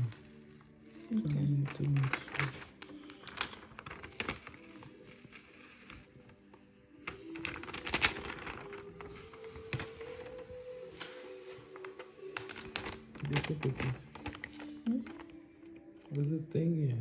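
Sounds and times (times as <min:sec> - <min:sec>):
sharp crackle: 0:00.0 - 0:06.1, 0:07.0 - 0:15.4
plastic tape crinkling: 0:00.0 - 0:16.2.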